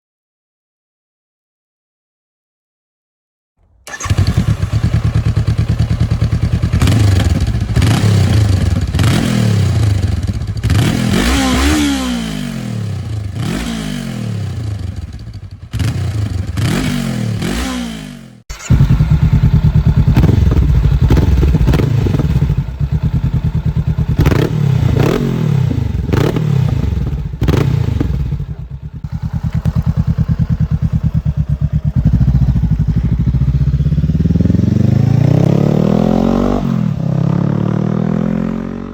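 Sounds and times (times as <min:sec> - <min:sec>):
motorcycle engine idling and revving: 0:03.6 - 0:38.9.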